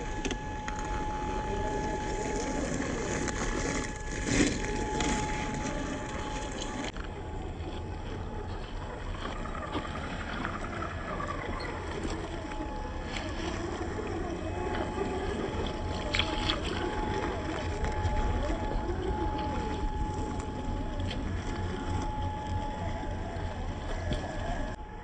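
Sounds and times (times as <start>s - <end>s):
toy truck motor whine: 0.0s - 25.0s.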